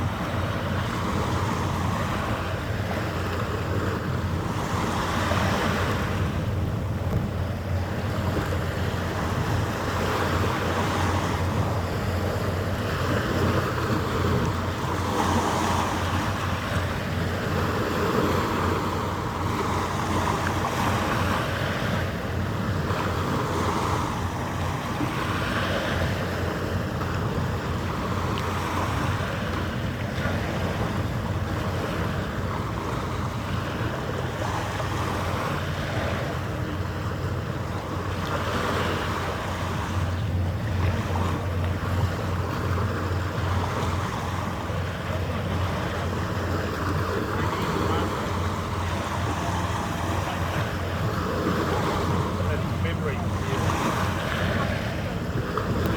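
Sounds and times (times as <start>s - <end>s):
rushing wind and water: 0.0s - 55.9s.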